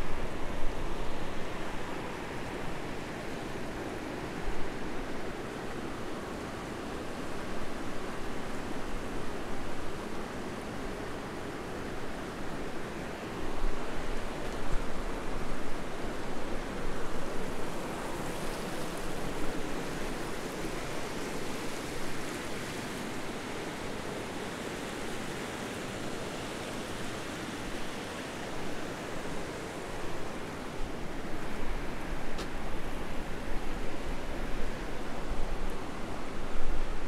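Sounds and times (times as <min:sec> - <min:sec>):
river rushing over weir: 0:00.0 - 0:37.0.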